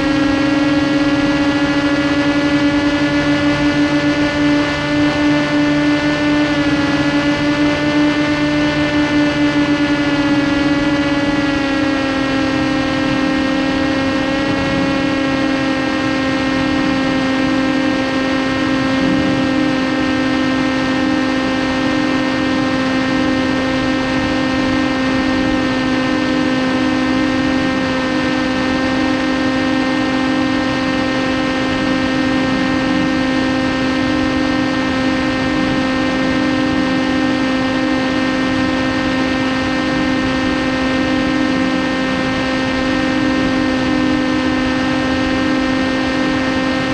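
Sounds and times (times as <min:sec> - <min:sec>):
electric motor and propeller hum: 0:00.0 - 0:46.9.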